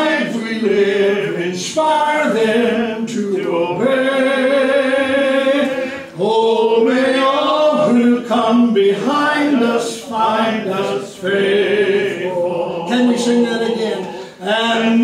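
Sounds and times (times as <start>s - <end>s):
man singing a hymn unaccompanied: 0.0s - 15.0s.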